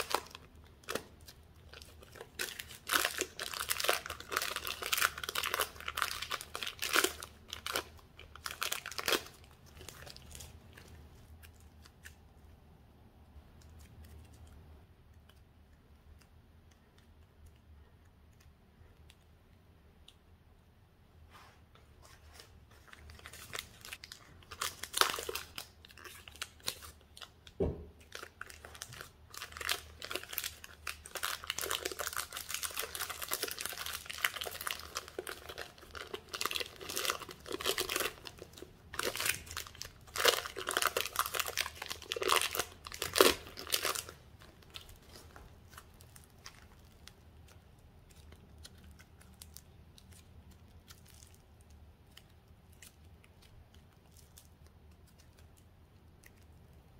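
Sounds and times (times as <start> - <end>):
plastic bag crinkling and tearing: 0.0 - 12.2, 22.2 - 56.7.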